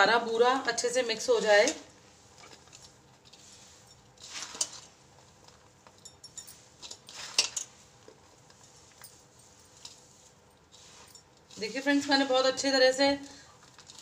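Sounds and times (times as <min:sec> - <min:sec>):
hands mixing crumbly dough in bowl: 0:00.0 - 0:14.0.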